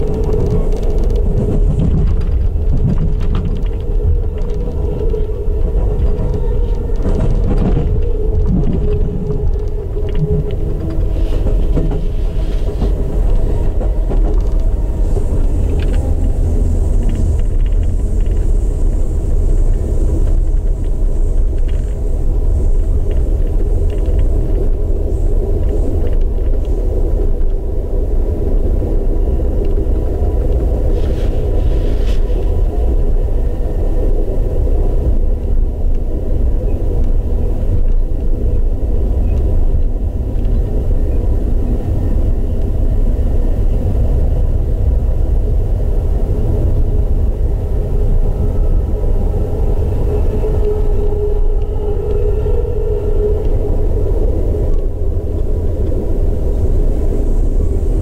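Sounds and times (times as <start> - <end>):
train rumbling along track: 0.0 - 58.0.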